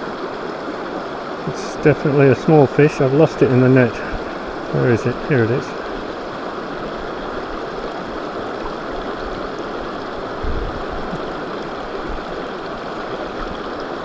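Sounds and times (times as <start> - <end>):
rocky stream running: 0.0 - 14.0.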